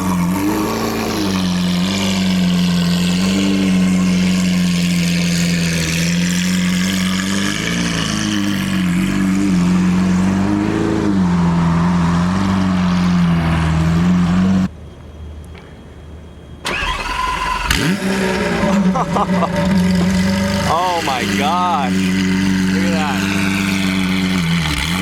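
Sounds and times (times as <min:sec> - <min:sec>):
sports car engine fast idle: 0:00.0 - 0:12.0, 0:16.7 - 0:25.0.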